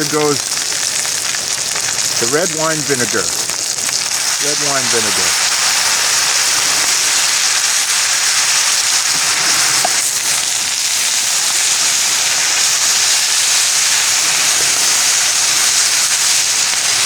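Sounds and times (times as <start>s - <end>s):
food sizzling in a pan: 0.0s - 17.0s
rain pattering on a tarp: 0.0s - 17.0s.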